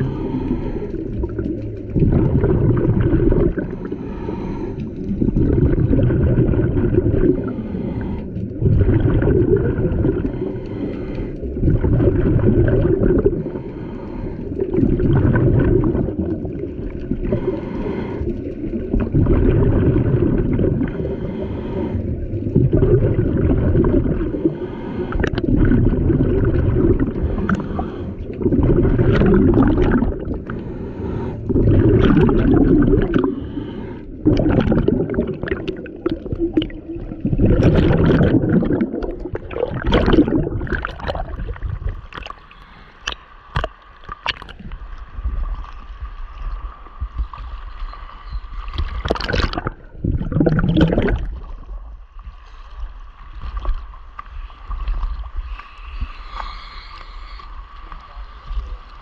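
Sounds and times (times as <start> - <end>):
underwater exhaled bubbles: 0.0 - 59.0.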